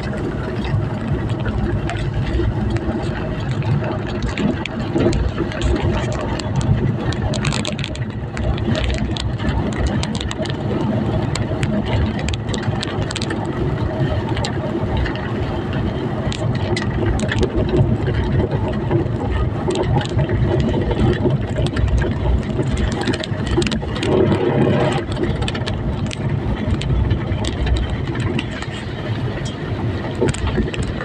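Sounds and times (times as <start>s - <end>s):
road noise: 0.0s - 31.0s
vehicle engine running: 0.0s - 31.0s.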